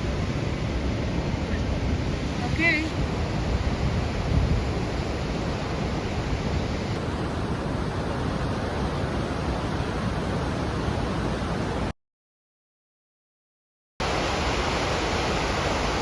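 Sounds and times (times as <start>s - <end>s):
waterfall roaring: 0.0s - 11.9s, 14.0s - 16.0s.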